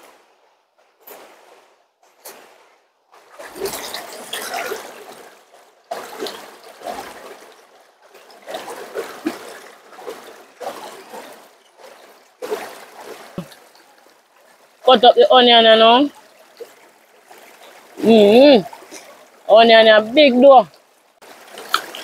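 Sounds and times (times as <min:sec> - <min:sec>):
water splashing and pouring: 0:00.0 - 0:22.0.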